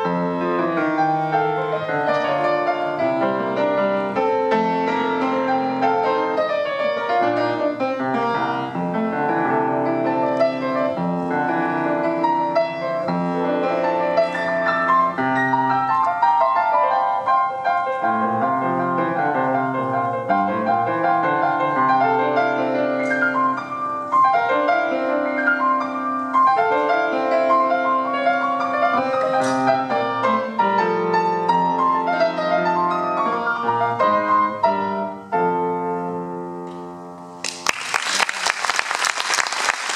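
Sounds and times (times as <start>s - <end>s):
solo grand piano: 0.0s - 39.9s.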